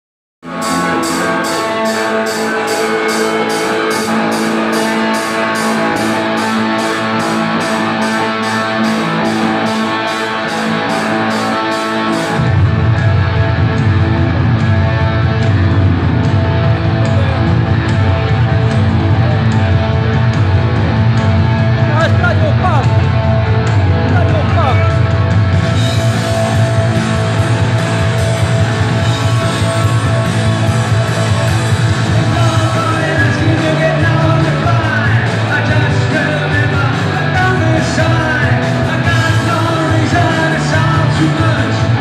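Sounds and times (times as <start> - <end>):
bass guitar: 0.4 - 42.0
electric guitar playing: 0.4 - 42.0.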